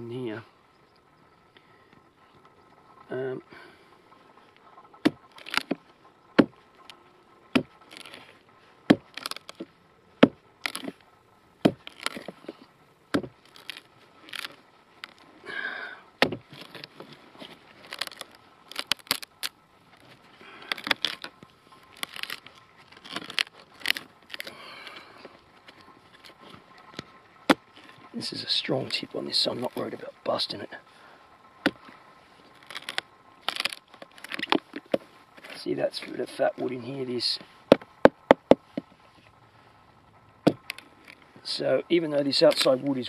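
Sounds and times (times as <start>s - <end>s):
wood splintering and scraping: 1.6s - 39.8s, 40.4s - 43.0s.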